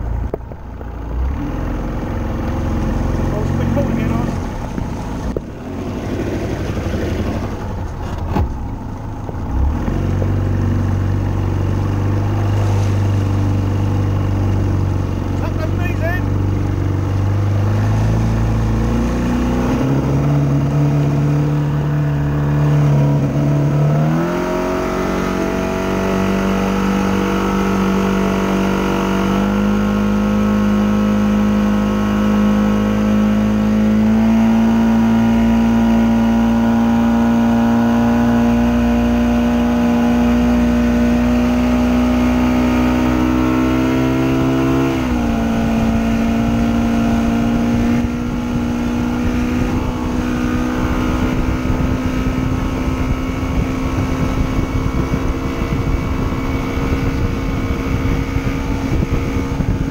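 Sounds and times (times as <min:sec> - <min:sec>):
outboard motor running hard: 0:00.0 - 0:59.9
rush of wake and wind: 0:09.6 - 0:33.3, 0:34.3 - 0:59.9.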